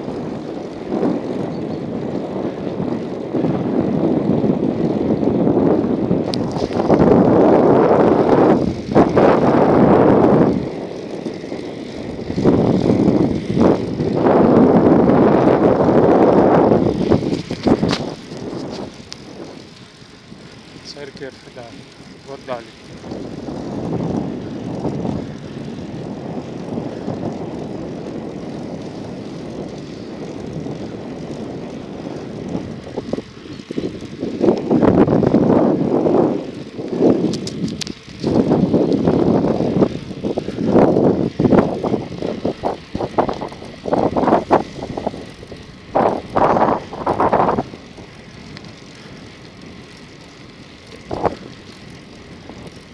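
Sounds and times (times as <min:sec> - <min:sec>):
vehicle running noise: 0:00.0 - 0:52.9
wind rumbling on microphone: 0:00.0 - 0:52.9.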